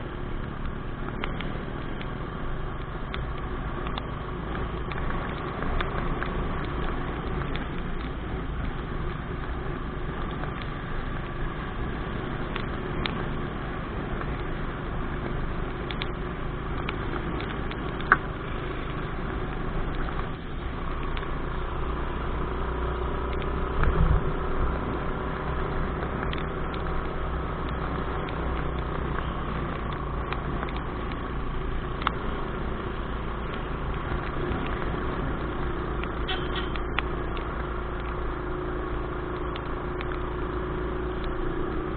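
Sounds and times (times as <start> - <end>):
road and wind noise: 0.0 - 41.9.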